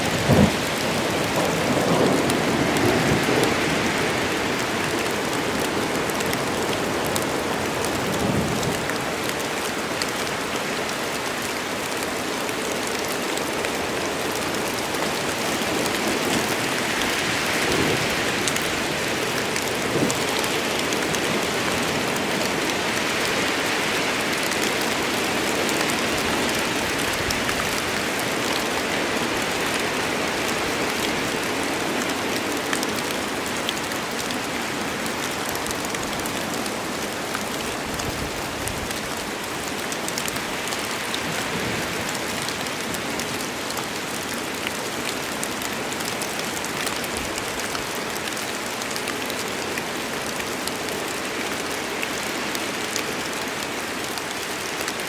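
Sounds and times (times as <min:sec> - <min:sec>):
rain falling in forest: 0:00.0 - 0:55.0.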